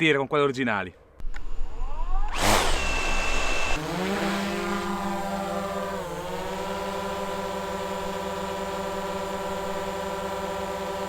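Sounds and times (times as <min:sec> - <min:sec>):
drone propeller whine: 0:01.3 - 0:11.0.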